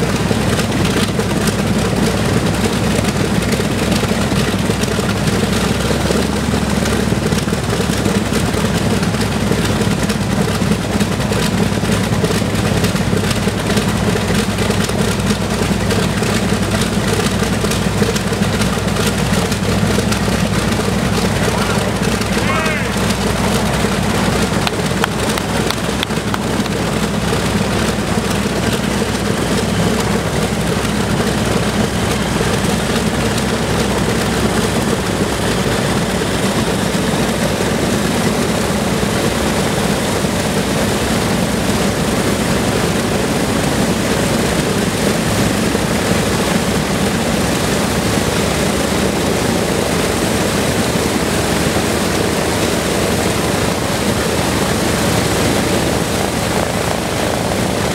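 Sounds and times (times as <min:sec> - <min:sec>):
propeller engines droning: 0:00.0 - 0:57.9.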